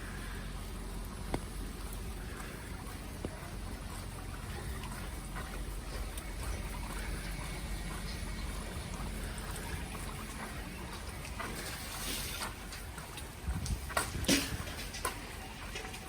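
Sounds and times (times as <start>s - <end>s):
hiss of wet street: 0.0s - 16.0s.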